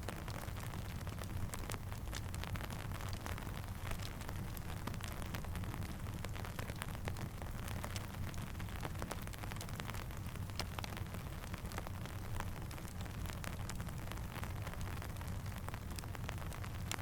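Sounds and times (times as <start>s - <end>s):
campfire crackling and popping: 0.0s - 17.0s
steady rain: 0.0s - 17.0s.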